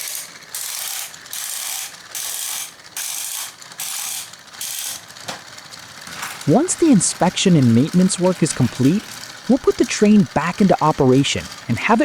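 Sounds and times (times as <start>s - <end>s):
toy train gears whirring and ratcheting: 0.0s - 12.0s.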